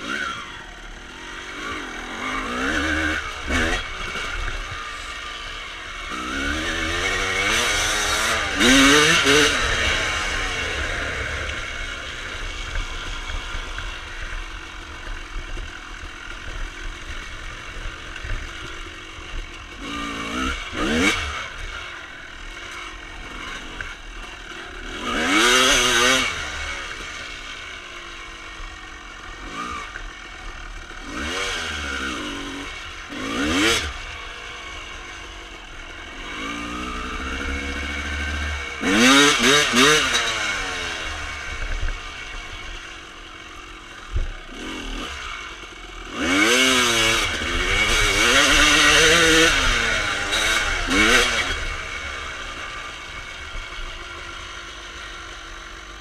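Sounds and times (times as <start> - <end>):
two-stroke motorcycle engine revving: 0.0 - 56.0.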